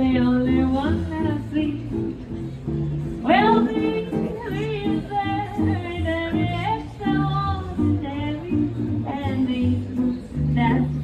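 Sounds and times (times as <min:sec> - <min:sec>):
woman singing: 0:00.0 - 0:02.1, 0:03.2 - 0:11.0
upright bass: 0:00.0 - 0:11.0.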